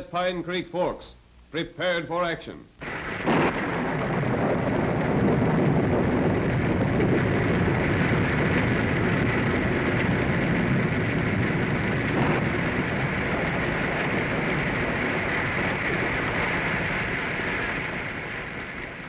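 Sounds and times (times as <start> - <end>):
low rumble: 2.8 - 19.0
rain and wind: 2.8 - 19.0.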